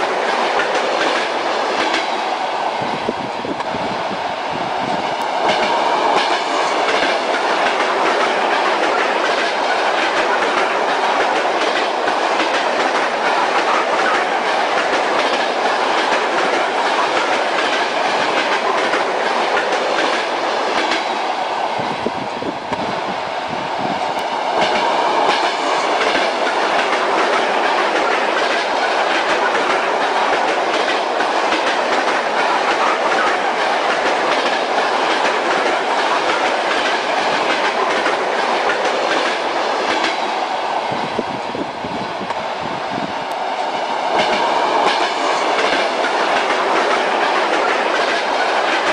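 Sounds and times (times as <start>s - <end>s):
train wheels clacking: 0.0s - 2.7s, 5.0s - 21.7s, 24.0s - 41.3s, 43.2s - 48.9s
rolling rumble of train: 0.0s - 48.9s.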